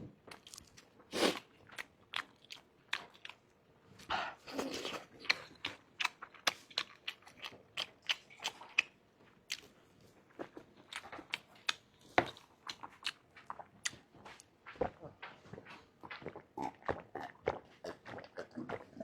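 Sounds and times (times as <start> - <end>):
person chewing with wet smacks: 0.3 - 19.0.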